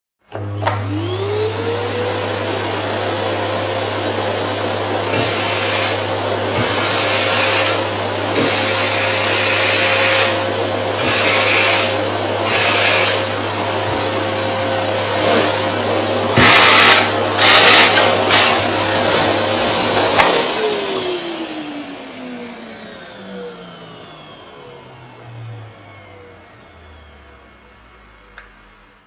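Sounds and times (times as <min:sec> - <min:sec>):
vacuum cleaner motor whine: 0:00.3 - 0:29.0.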